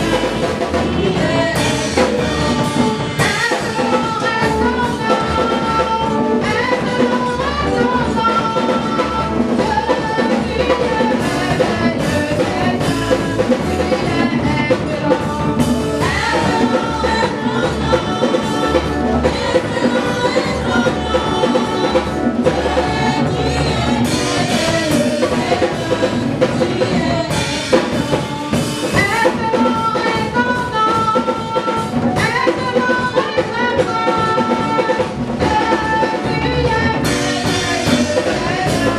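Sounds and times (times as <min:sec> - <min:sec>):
drum kit: 0:00.0 - 0:38.9
women singing: 0:00.0 - 0:38.9.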